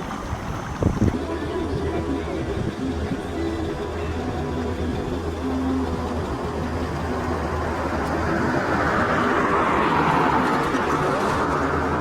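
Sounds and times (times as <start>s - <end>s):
road noise: 0.0s - 12.0s
vehicle engine drone: 0.0s - 12.0s.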